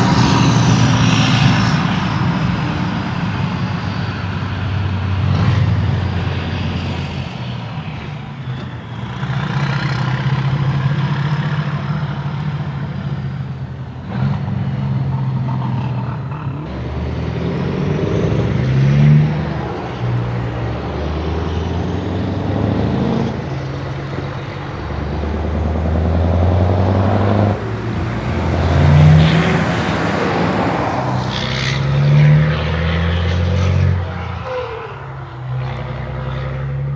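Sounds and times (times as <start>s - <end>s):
diesel trucks revving past: 0.0s - 36.9s.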